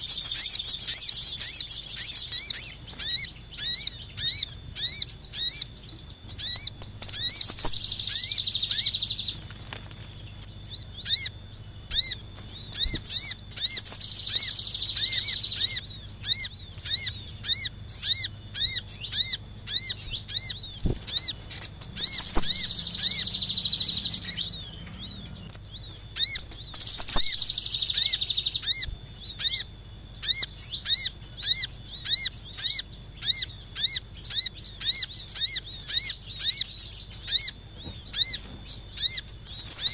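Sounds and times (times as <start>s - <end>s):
birds chattering: 0.0s - 39.9s
songbird high chirps: 0.0s - 39.9s.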